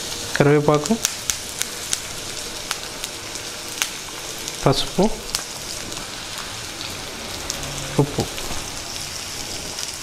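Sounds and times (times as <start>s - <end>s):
food sizzling in hot oil: 0.0s - 10.0s
oil crackling and popping: 0.0s - 10.0s.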